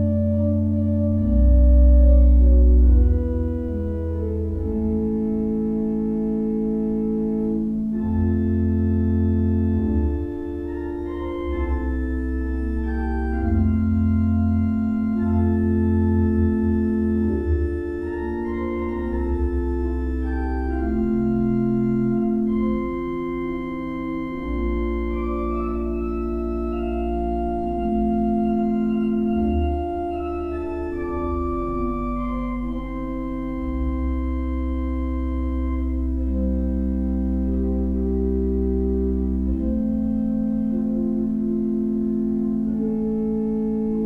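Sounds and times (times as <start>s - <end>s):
church organ chords: 0.0s - 44.0s.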